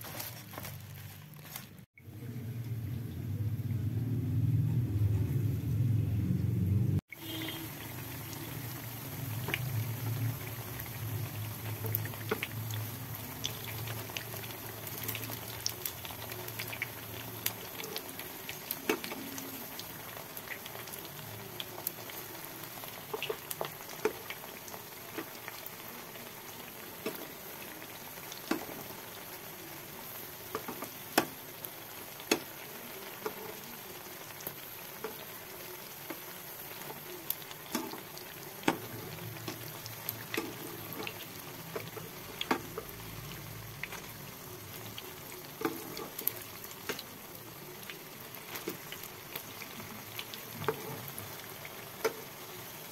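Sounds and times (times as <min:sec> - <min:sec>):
food deep-frying in hot oil: 0:00.0 - 0:52.9.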